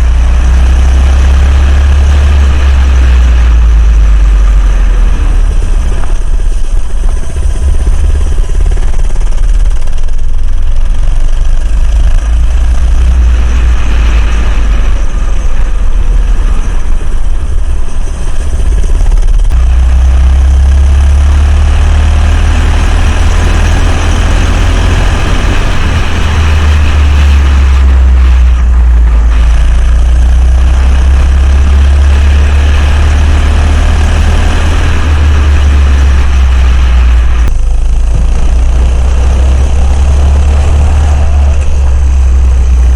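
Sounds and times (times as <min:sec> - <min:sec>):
minibike engine running: 0:00.0 - 0:42.9
wind rumble on microphone: 0:00.0 - 0:42.9.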